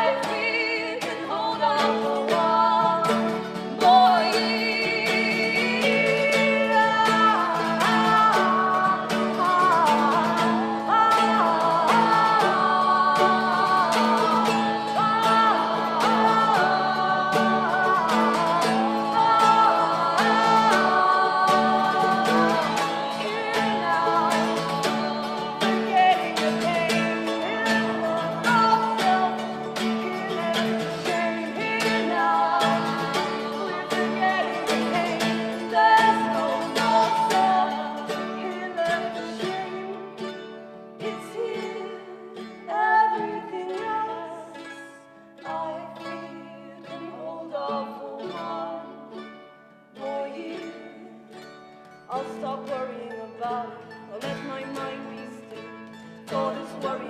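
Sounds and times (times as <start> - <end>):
person singing wordlessly: 0.0 - 49.3, 50.0 - 51.5, 52.1 - 57.0
acoustic guitar plucked and strummed: 0.0 - 57.0.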